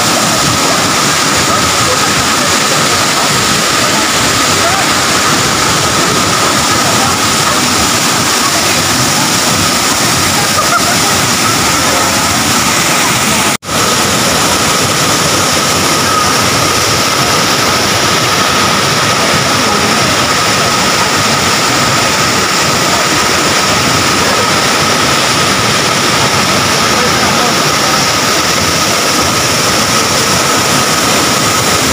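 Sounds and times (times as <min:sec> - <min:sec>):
waterfall pouring onto rocks: 0:00.0 - 0:31.9.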